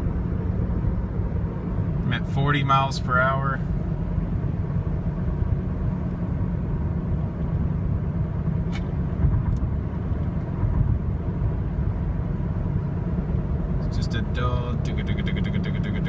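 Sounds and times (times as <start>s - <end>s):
low drone inside car cabin: 0.0s - 16.0s.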